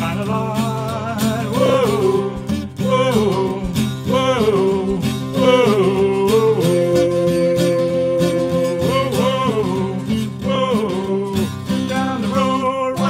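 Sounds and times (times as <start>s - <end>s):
acoustic guitars strummed: 0.0s - 13.0s
man singing: 0.0s - 13.0s.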